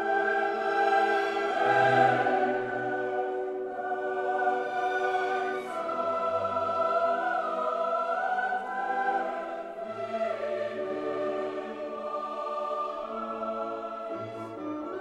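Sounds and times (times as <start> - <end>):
choir-like voices holding chords: 0.0 - 15.0.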